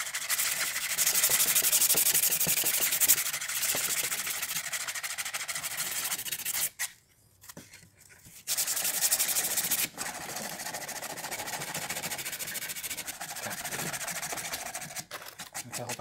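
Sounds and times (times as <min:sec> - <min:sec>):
sandpaper scratching on wood: 0:00.0 - 0:06.9, 0:08.5 - 0:16.0.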